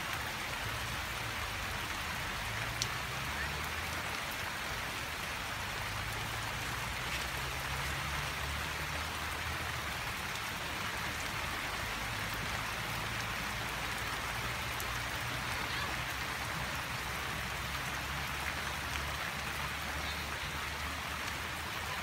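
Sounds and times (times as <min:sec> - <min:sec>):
rain on wet ground: 0:00.0 - 0:22.0.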